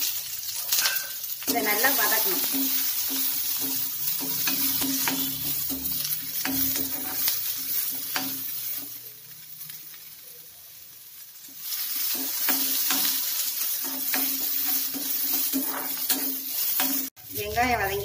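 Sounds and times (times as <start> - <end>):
onions sizzling in hot oil: 0.0 - 18.0
metal spatula scraping pan: 0.6 - 9.0, 11.6 - 18.0.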